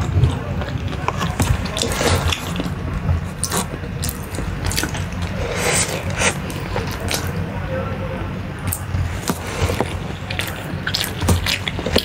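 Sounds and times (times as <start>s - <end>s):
chewing noodles with wet smacks: 0.0s - 7.4s, 8.6s - 12.0s.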